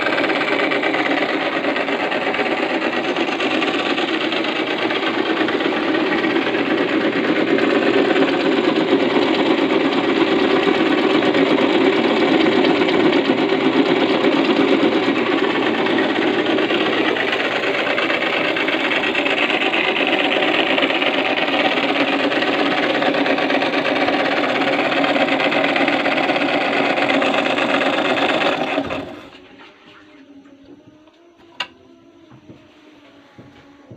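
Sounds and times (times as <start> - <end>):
electric drill running: 0.0 - 29.4.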